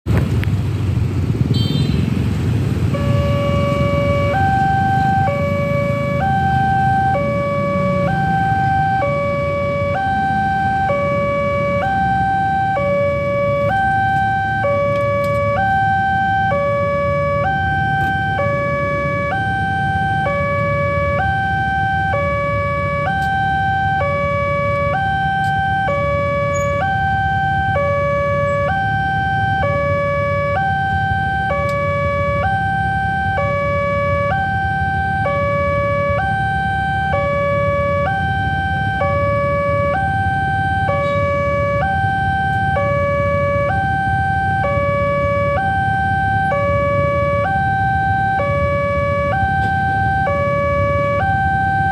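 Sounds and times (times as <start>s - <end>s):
level crossing two-tone alarm: 2.9s - 51.9s.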